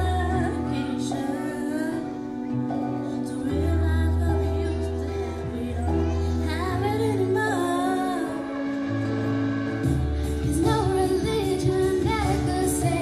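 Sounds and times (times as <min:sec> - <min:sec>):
girl singing pop ballad: 0:00.0 - 0:09.0, 0:09.8 - 0:13.0
backing music with bass notes: 0:00.0 - 0:13.0.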